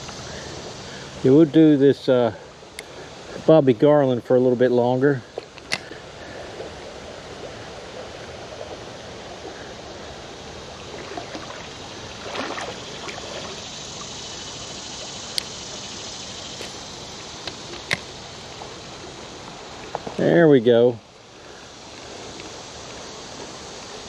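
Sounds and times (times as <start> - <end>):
creek water trickling: 0.0 - 24.0.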